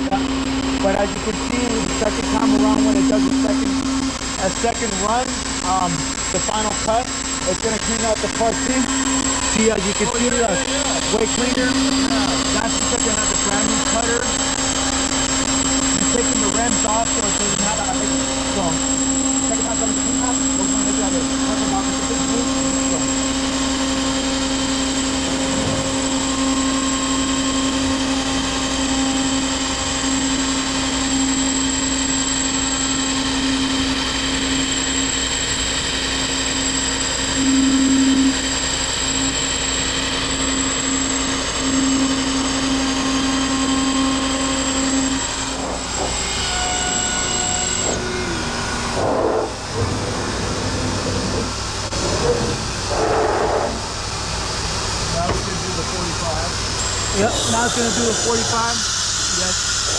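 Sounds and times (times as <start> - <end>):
high whine: 0.0 - 59.9
router spindle hum: 0.0 - 59.9.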